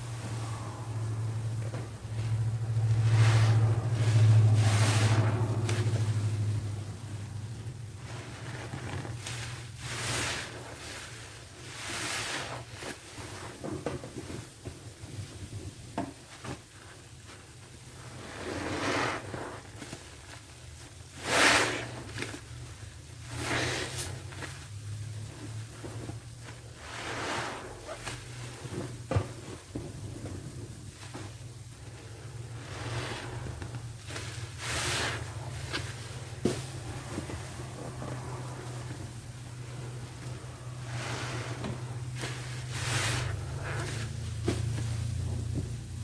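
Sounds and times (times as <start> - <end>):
soapy sponge squelching: 2.1 - 13.5, 18.1 - 45.8.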